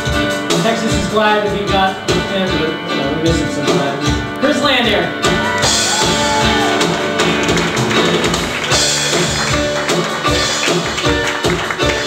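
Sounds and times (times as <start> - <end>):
live band with guitar and piano: 0.0 - 12.0.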